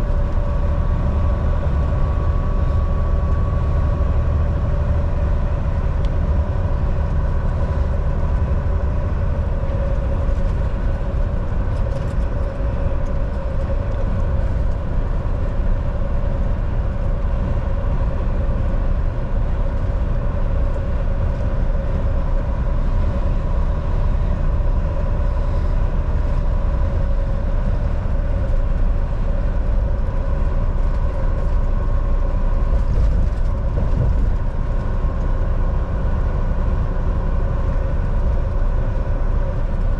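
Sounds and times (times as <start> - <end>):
diesel truck engine drone: 0.0 - 39.9
road and tyre rumble: 0.0 - 39.9.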